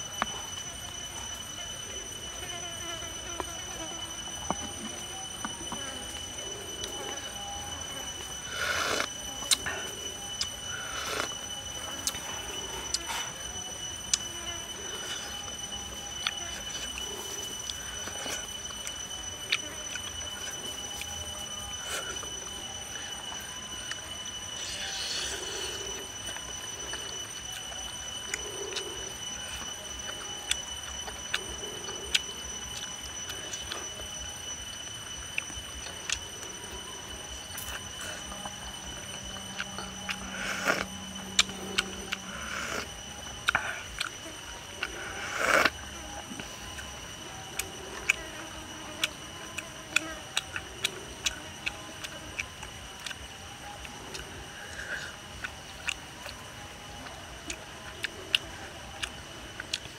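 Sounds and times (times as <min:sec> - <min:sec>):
steady high whine: 0:00.0 - 0:59.9
mouth sounds of eating: 0:04.2 - 0:21.1, 0:23.8 - 0:34.0, 0:34.6 - 0:59.9.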